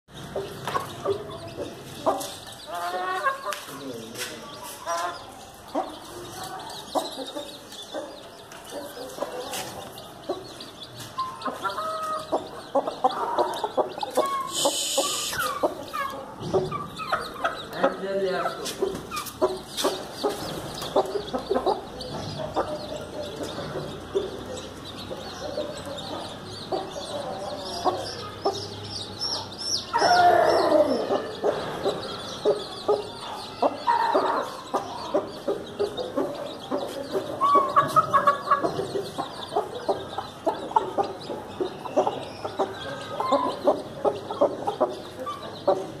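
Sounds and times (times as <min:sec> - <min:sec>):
chicks peeping: 0:00.1 - 0:46.0
hen clucking: 0:00.2 - 0:46.0.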